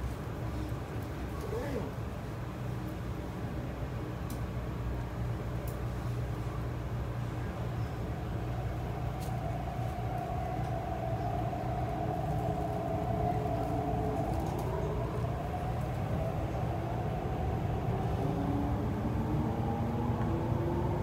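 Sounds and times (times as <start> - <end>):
train interior rumble: 0.0 - 21.0.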